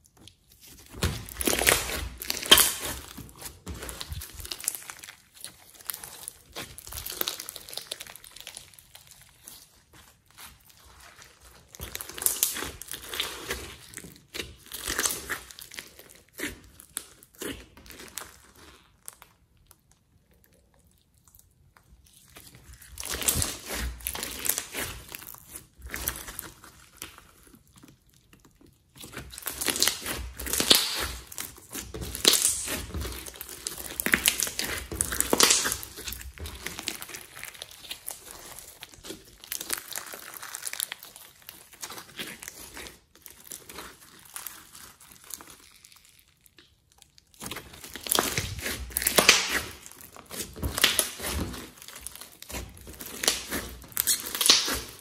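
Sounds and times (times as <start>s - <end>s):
slime squelching: 0.0s - 55.0s.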